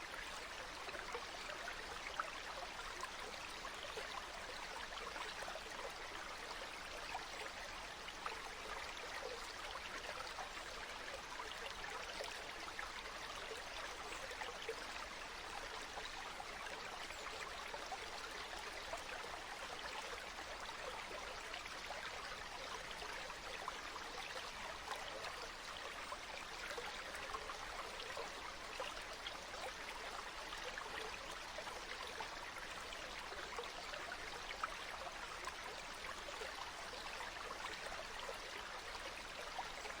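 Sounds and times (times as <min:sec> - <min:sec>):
stream water flowing: 0:00.0 - 0:40.0
water splashes and trickles: 0:00.0 - 0:40.0.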